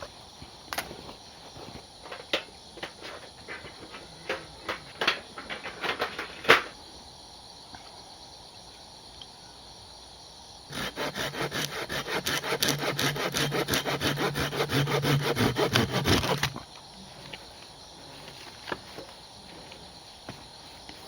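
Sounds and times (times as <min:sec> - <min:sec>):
faint steady hiss: 0:00.0 - 0:12.4, 0:16.4 - 0:21.0.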